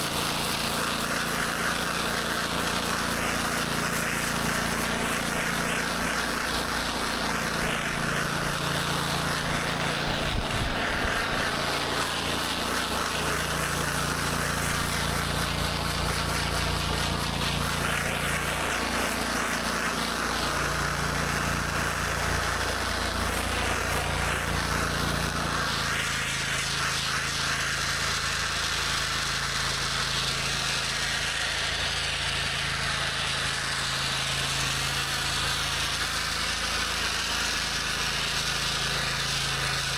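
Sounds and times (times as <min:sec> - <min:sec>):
pressure washer engine hum: 0:00.0 - 0:39.9
water spraying on concrete: 0:00.0 - 0:39.9.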